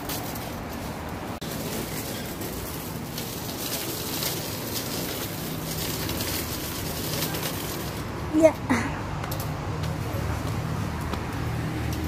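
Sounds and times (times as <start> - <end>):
shopping trolley rolling over pavement: 0.0 - 12.0
wheels and basket rattling: 0.0 - 12.0.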